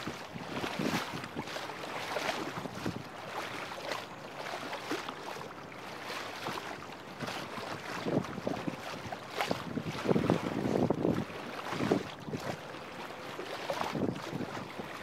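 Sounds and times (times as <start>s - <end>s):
water lapping against a hull: 0.0s - 15.0s
wind and water wash: 0.0s - 15.0s.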